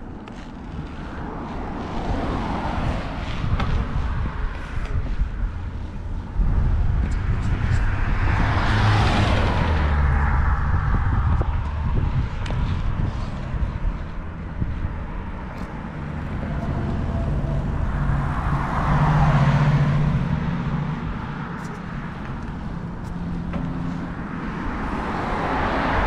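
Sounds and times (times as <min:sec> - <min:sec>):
vehicle passing: 0:00.4 - 0:26.0
low rumble: 0:03.5 - 0:25.4.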